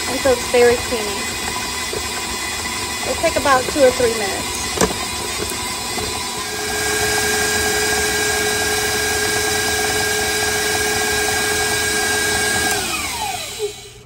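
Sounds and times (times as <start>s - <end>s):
stand mixer motor whine: 0.0s - 14.0s.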